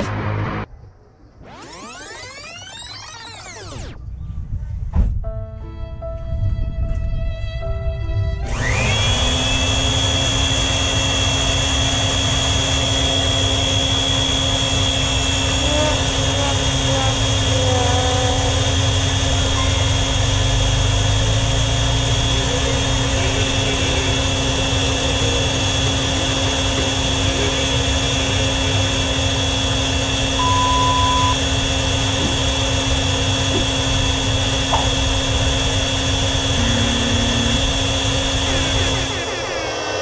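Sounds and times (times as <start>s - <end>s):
electric oil pump running: 1.4s - 4.0s, 8.4s - 40.0s.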